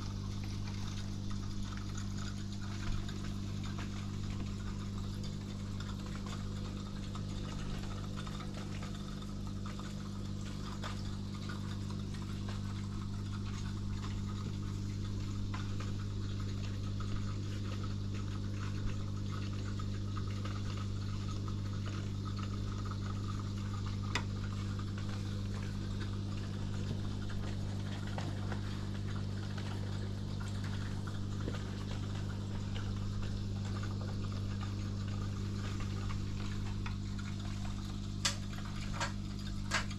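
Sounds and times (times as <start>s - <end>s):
aquarium pump humming: 0.0s - 39.9s
water trickling and bubbling: 0.0s - 39.9s.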